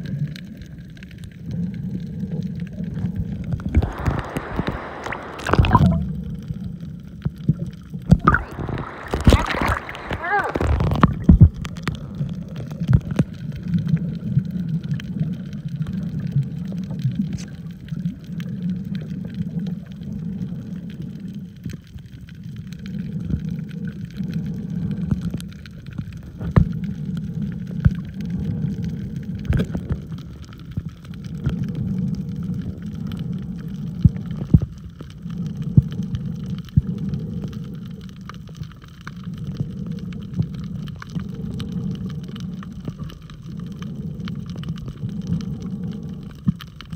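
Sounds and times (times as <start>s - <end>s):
sharp clicks and crackles: 0.0s - 46.9s
underwater rumble of moving water: 0.0s - 46.9s.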